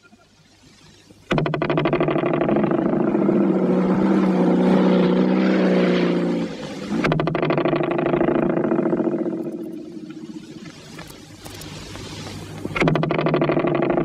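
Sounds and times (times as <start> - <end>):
heavy engine throbbing: 1.3 - 14.0.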